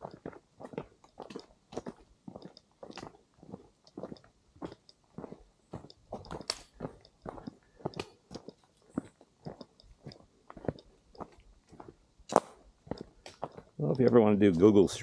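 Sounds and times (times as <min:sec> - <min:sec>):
footsteps on trail: 0:00.0 - 0:15.0.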